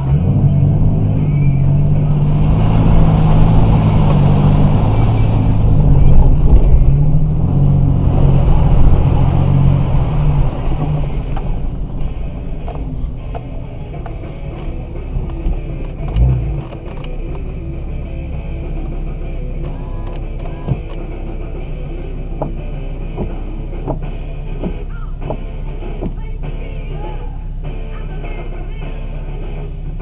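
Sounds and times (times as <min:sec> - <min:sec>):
vehicle engine revving: 0:00.0 - 0:30.0
water splashing against vehicle: 0:00.0 - 0:30.0.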